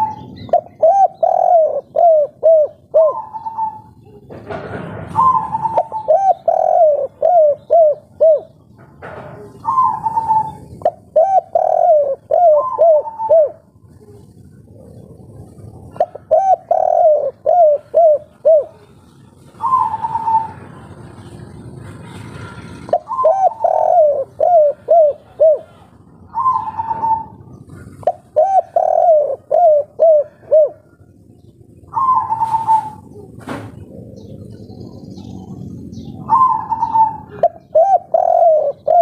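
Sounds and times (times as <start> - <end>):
dove cooing: 0.0 - 21.2, 22.7 - 39.0.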